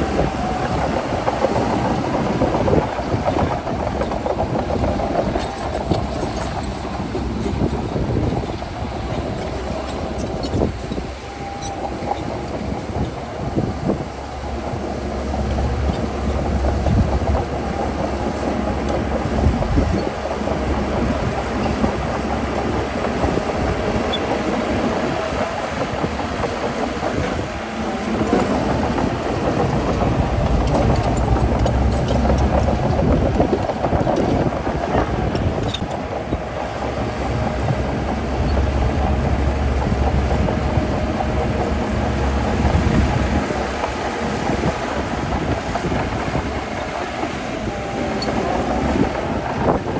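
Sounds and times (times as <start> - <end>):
diesel engine rumble: 0.0 - 49.9
heavy machinery mechanical noise: 0.0 - 49.9.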